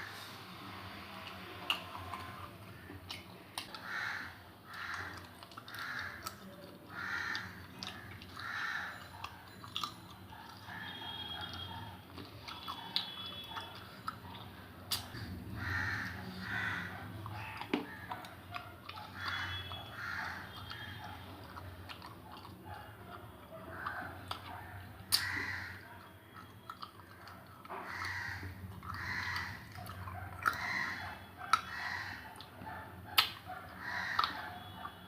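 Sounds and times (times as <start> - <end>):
person chewing food: 1.0 - 35.0.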